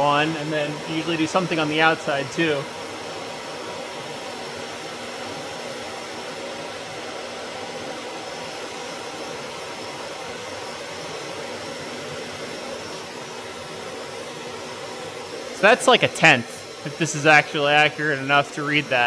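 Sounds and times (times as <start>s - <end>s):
fan rushing air: 0.0s - 19.0s.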